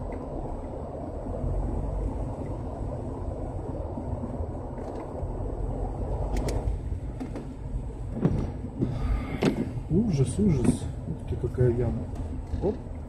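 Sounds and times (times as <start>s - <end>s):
engine and tyres through water: 0.0s - 13.0s.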